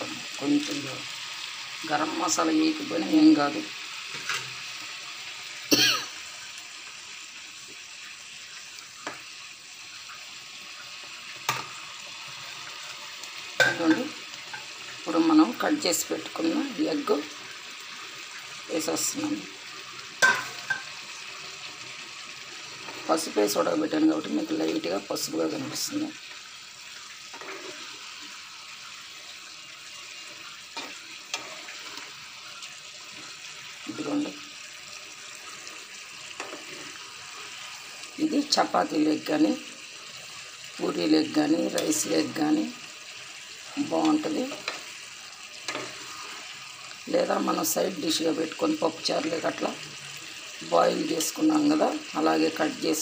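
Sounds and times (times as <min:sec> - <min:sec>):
gravy bubbling and sizzling: 0:00.0 - 0:53.0.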